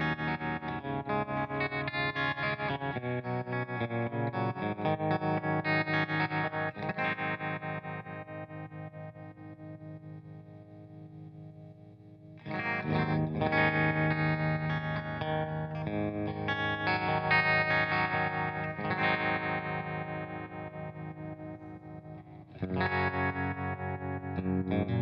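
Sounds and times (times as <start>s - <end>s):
overdriven electric guitar chords: 0.0s - 25.0s.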